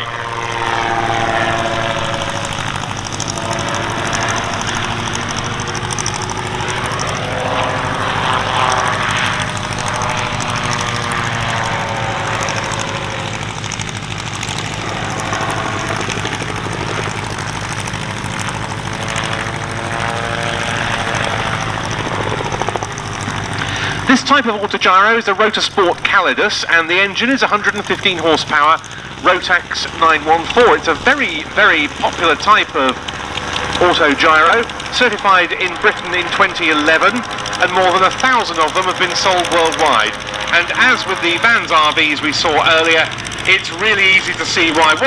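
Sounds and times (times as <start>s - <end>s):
aircraft engine and propeller: 0.0s - 45.0s.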